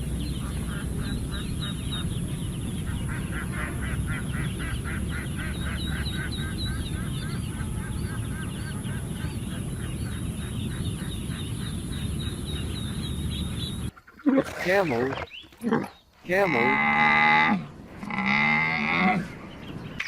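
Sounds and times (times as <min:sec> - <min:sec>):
ducks quacking: 0:00.0 - 0:17.2.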